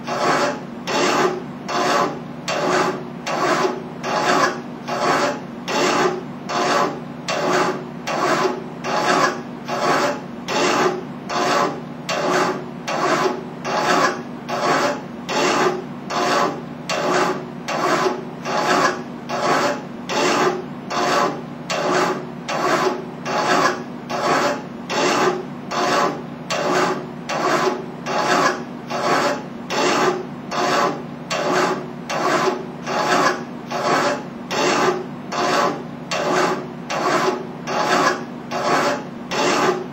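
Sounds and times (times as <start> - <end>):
file scraping metal tube: 0.0 - 39.9.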